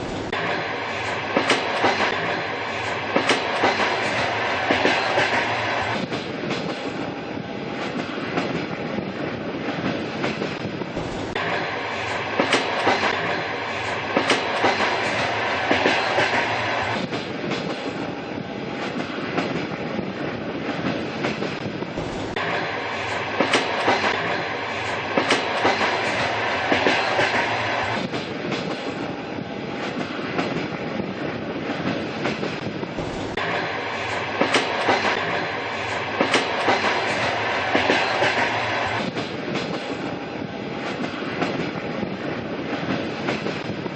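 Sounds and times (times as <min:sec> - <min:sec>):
train wheels clickety-clack: 0:00.0 - 0:43.9.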